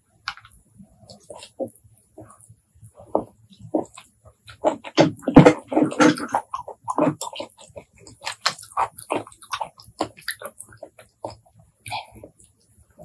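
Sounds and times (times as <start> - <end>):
wet chewing mouth noises: 0.3 - 13.0.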